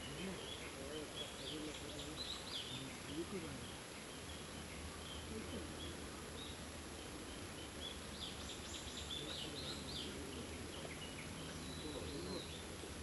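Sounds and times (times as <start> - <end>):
outdoor background noise: 0.0 - 13.0
wild birds chirping: 0.0 - 13.0.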